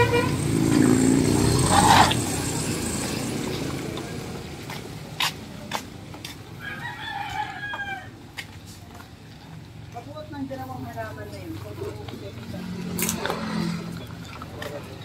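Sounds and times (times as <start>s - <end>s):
tyres on gravel: 0.3s - 15.0s.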